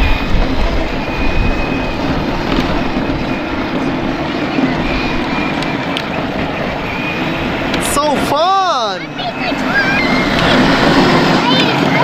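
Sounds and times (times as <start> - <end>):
electric motor whining: 0.0 - 12.0
plastic wheels rolling on pavement: 0.0 - 12.0.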